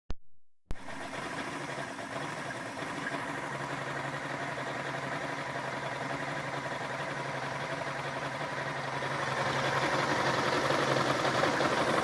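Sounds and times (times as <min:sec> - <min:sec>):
engine rough idling: 0:00.7 - 0:12.0.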